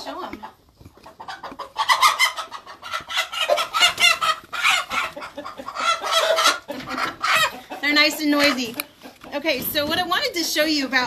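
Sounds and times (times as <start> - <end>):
chickens squawking: 0.0 - 11.0.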